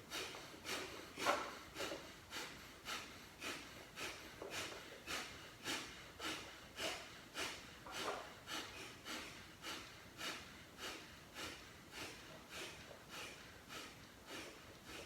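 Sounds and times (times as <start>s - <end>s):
quiet inhalations: 0.0s - 15.0s
forceful nasal exhalations: 0.1s - 15.0s.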